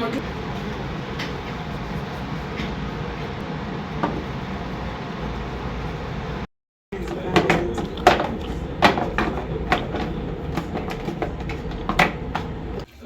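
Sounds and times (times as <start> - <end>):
steady hum: 0.0 - 12.9
vehicle running noise: 0.1 - 12.9.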